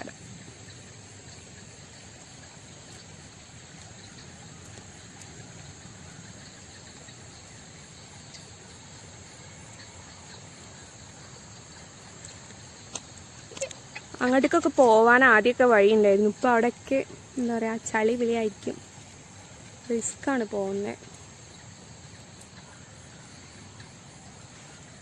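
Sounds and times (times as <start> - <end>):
insect chorus shrilling: 0.0 - 25.0.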